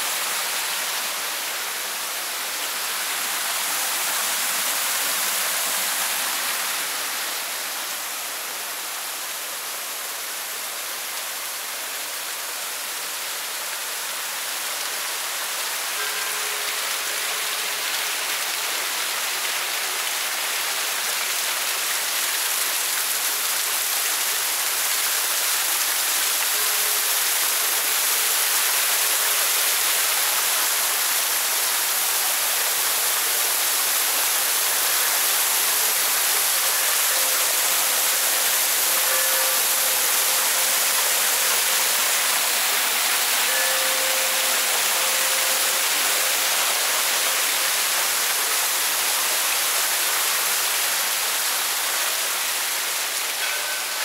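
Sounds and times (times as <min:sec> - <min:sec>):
waterfall splashing into pond: 0:00.0 - 0:54.0.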